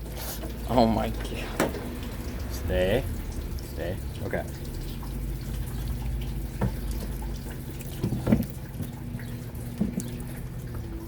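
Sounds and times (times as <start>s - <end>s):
fluid splashing into a bucket: 0.0s - 11.0s.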